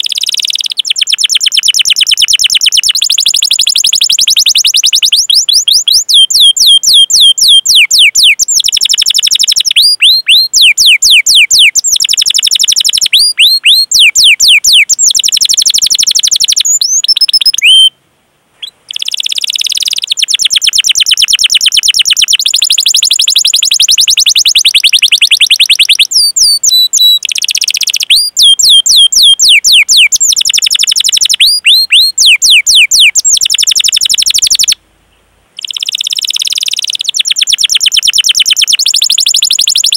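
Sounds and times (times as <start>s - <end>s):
canary singing trills: 0.0s - 18.0s, 18.6s - 34.8s, 35.6s - 39.9s.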